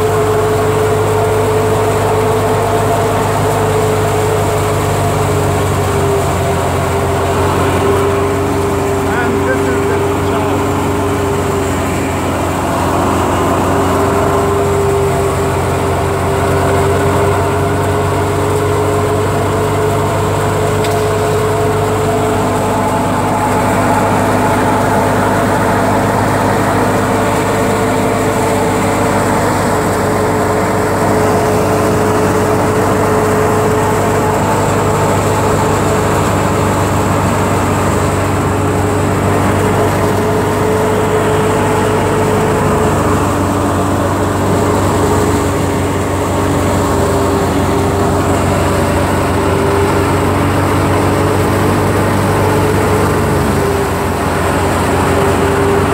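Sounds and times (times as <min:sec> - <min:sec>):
thresher mechanical drone: 0:00.0 - 0:55.9.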